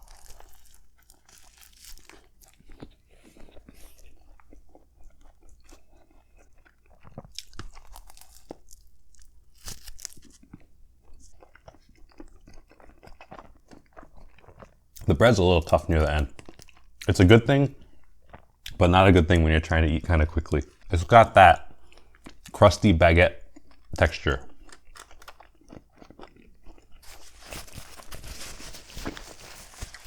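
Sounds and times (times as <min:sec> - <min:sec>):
chewing crusty sandwich: 0:00.0 - 0:30.0.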